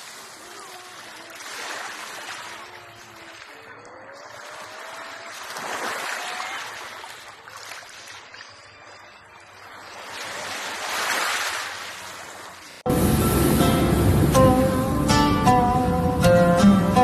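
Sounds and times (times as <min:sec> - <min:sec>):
waves on a pebble beach: 0:00.0 - 0:14.3.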